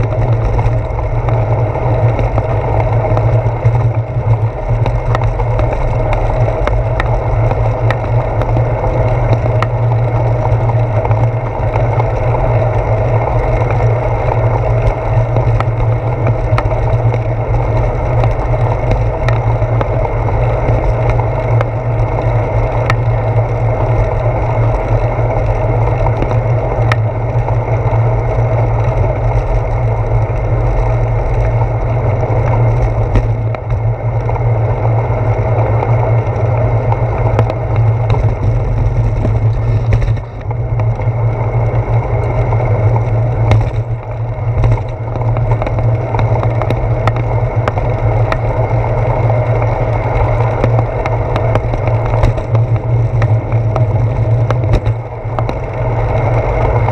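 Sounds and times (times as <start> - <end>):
bicycle clicks and rattles: 0.0 - 56.9
bicycle tyre rumble: 0.0 - 56.9
wind on camera: 0.0 - 56.9.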